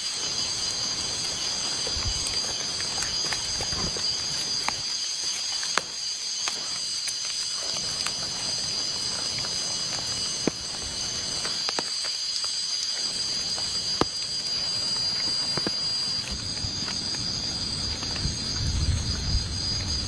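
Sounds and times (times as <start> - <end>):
rain hiss in forest: 0.0 - 20.0.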